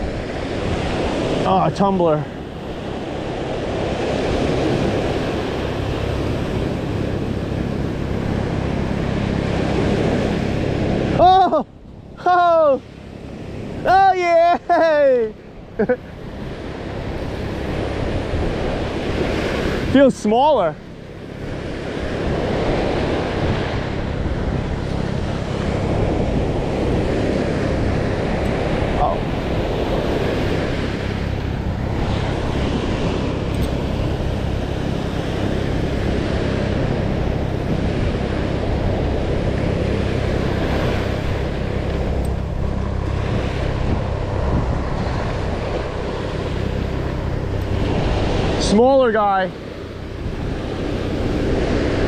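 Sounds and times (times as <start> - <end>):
ocean surf on beach: 0.0 - 52.0
wind buffeting microphone: 0.0 - 52.0.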